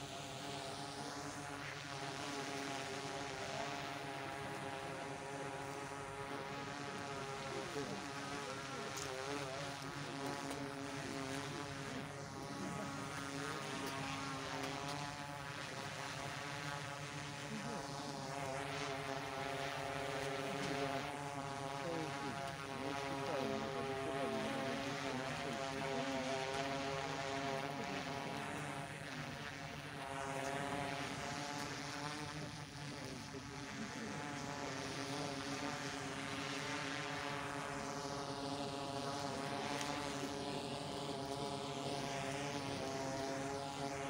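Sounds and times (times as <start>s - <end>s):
propeller hum: 0.0s - 44.0s.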